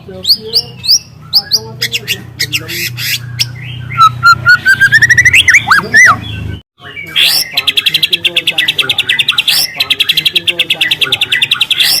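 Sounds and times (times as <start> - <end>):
bird singing whistles and trills: 0.2 - 12.0.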